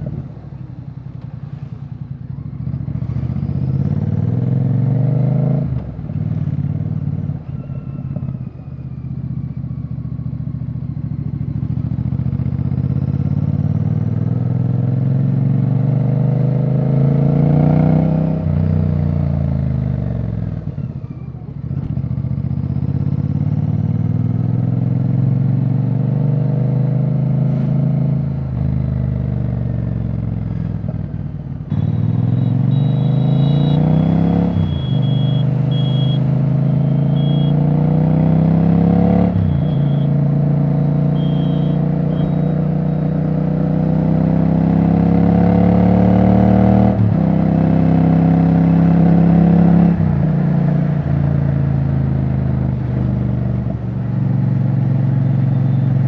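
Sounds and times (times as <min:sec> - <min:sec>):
motorcycle loud open exhaust: 0:00.0 - 0:56.0.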